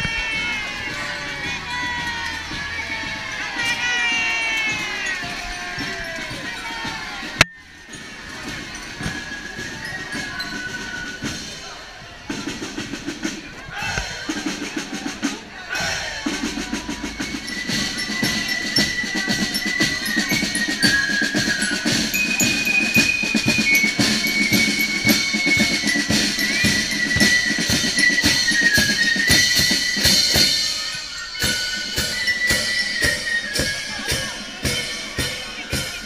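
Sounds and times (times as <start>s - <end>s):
snare drums marching rhythm: 0.0s - 36.0s.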